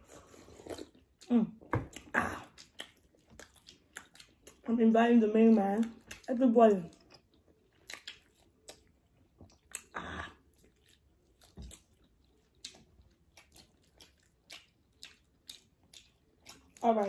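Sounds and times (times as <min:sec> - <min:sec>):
crunching and moist chewing: 0:00.0 - 0:17.0.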